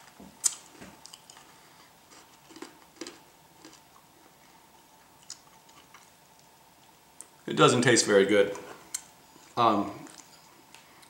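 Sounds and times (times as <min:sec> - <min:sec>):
soft chewing crunches: 0:00.0 - 0:07.4, 0:08.5 - 0:11.0.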